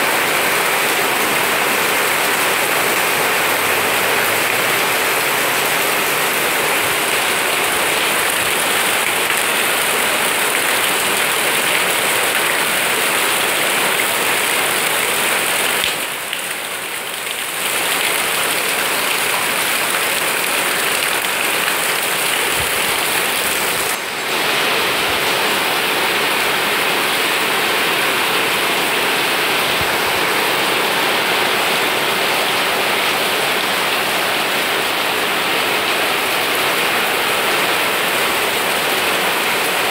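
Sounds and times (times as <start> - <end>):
heavy rain on plants: 0.0 - 39.9.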